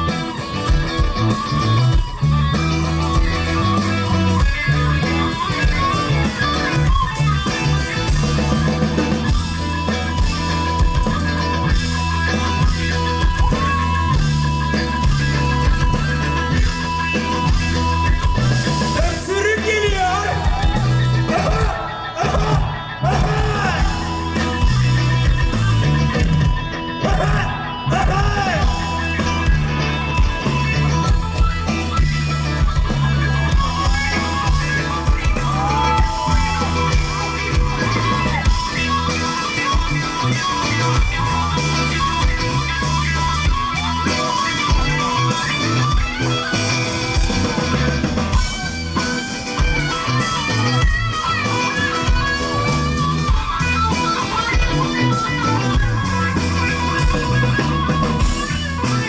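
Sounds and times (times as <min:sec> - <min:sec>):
electric guitar bending notes: 0:00.0 - 0:59.0
live rock band playing: 0:00.0 - 0:59.0.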